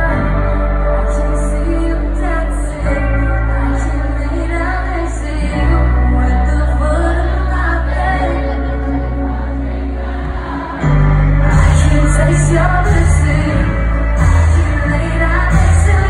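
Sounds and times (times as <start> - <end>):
live rock-pop band: 0.0 - 16.0
person singing: 0.0 - 16.0.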